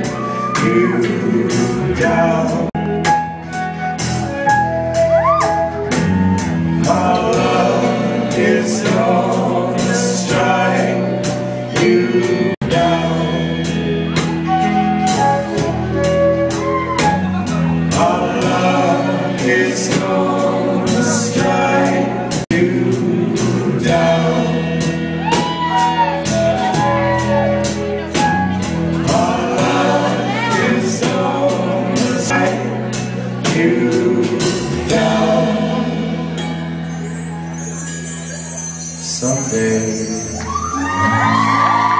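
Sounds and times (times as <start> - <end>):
drum kit beat: 0.0 - 36.9
bass guitar: 0.0 - 41.9.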